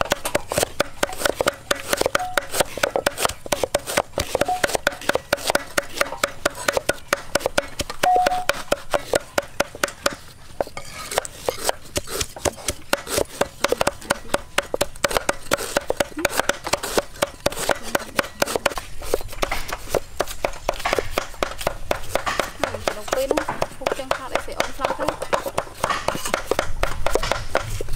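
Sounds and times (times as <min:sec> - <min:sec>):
cleaver chopping on wooden board: 0:00.0 - 0:27.9.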